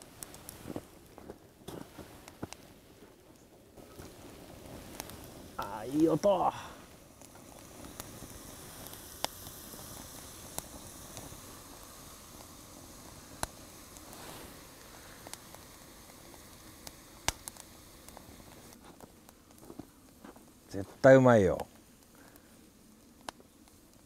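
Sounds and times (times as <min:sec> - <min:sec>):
oil sizzling: 0:00.0 - 0:24.0.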